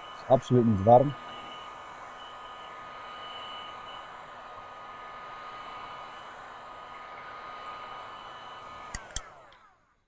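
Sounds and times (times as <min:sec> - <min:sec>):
heat gun blowing: 0:00.0 - 0:09.8.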